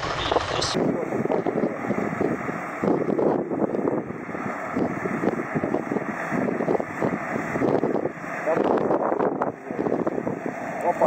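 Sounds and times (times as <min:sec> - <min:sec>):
bulldozer diesel engine drone: 0:00.0 - 0:11.0
wind buffeting microphone: 0:00.0 - 0:11.0.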